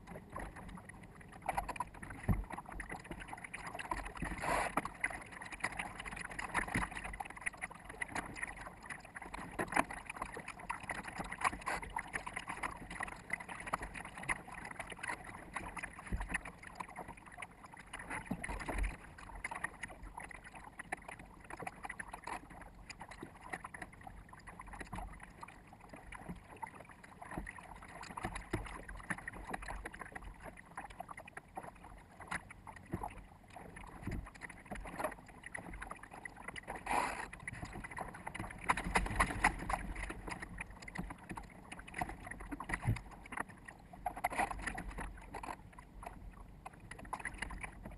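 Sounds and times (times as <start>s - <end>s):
water splashing against boat: 0.0s - 47.9s.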